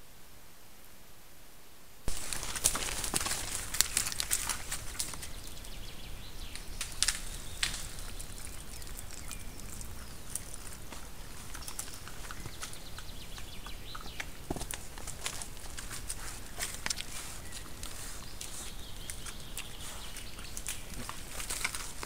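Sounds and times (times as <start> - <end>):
steady background hiss: 0.0 - 22.0
hooves stepping through twigs: 2.1 - 22.0.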